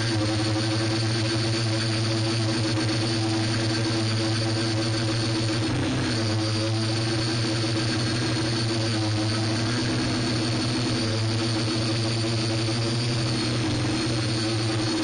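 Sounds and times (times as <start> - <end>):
drone motors humming: 0.0 - 15.0
thin high whine: 0.0 - 15.0.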